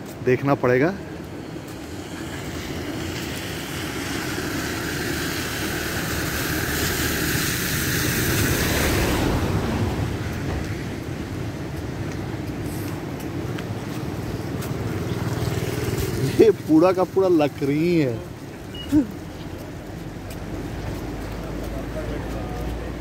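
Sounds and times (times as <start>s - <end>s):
floodwater rushing roar: 0.0s - 23.0s.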